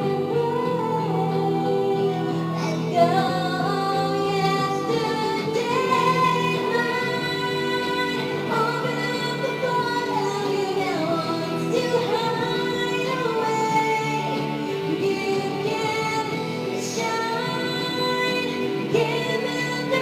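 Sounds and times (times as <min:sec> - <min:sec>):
instrumental backing: 0:00.0 - 0:20.0
woman singing pop song: 0:00.0 - 0:20.0.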